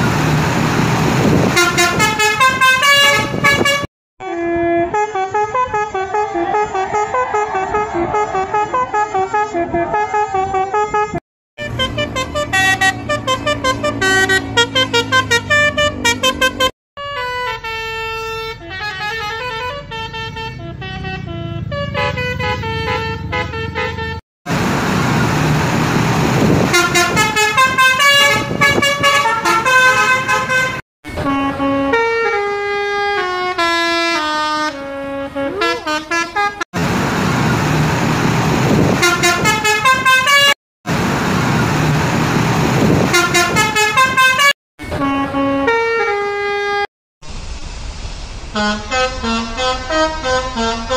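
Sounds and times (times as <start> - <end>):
engine and street noise: 0.0 - 50.9
bus air horns playing melodies: 1.2 - 24.6, 26.3 - 36.7, 38.7 - 40.6, 42.8 - 46.9, 48.5 - 50.9.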